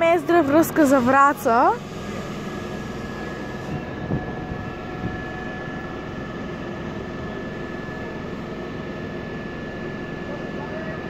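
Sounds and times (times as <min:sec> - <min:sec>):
electric locomotive humming: 0:00.0 - 0:11.0
high thin whine: 0:00.0 - 0:11.0.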